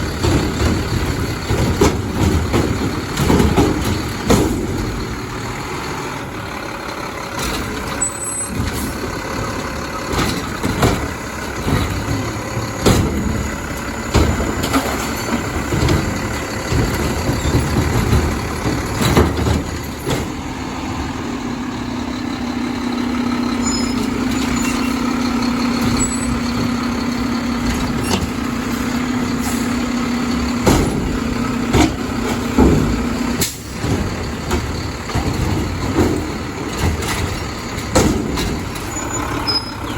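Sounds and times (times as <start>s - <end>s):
metal clanks and knocks: 0.0s - 6.2s, 7.1s - 20.9s, 22.6s - 39.9s
garbage truck running: 0.0s - 39.9s.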